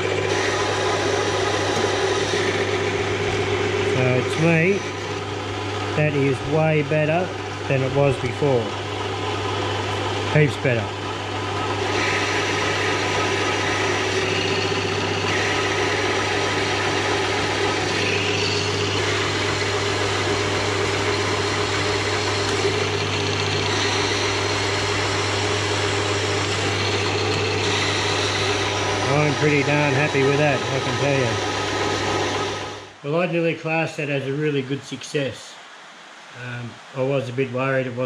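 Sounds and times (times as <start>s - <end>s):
metal lathe running: 0.0s - 33.0s.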